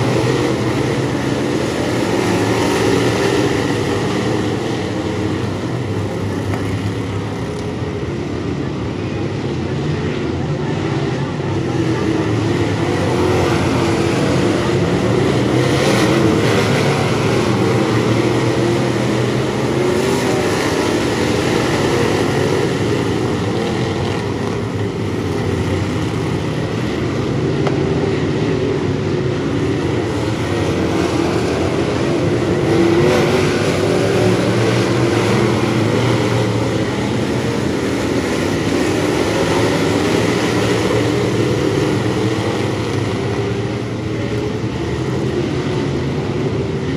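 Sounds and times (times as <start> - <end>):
race car engines droning: 0.0 - 46.9.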